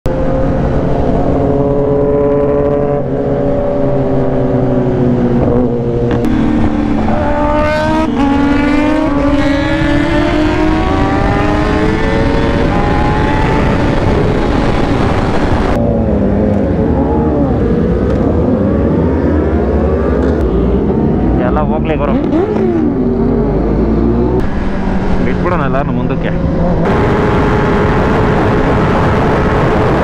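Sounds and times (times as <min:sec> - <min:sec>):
high-revving motorbike engines: 0:00.1 - 0:30.0.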